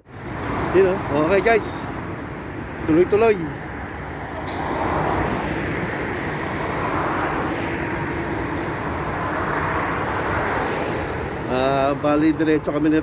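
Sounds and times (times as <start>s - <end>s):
vehicle roar: 0.0s - 13.0s.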